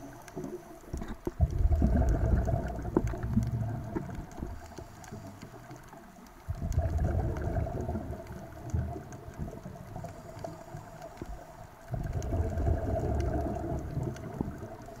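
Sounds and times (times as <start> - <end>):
faint steady hum: 0.0 - 15.0
regulator bubbles rumbling underwater: 0.0 - 15.0.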